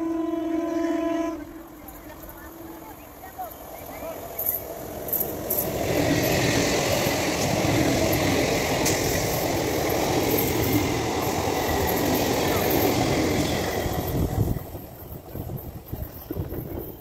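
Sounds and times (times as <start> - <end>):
train wheels rushing on rails: 1.2 - 17.0.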